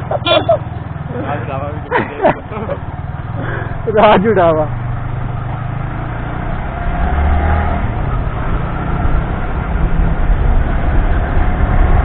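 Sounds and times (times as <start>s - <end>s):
vehicle engine rumble: 0.0s - 12.0s
wind and road noise: 0.0s - 12.0s.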